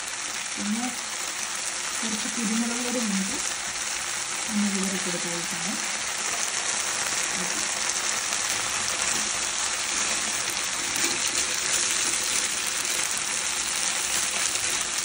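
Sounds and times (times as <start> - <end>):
sauce bubbling: 0.0 - 4.5, 5.5 - 15.0
chicken sizzling in a frying pan: 0.0 - 15.0.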